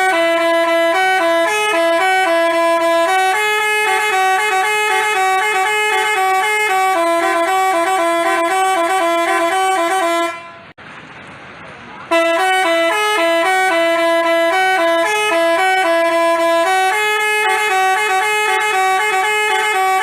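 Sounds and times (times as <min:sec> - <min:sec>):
bus horn playing a tune: 0:00.0 - 0:10.8, 0:12.1 - 0:20.0.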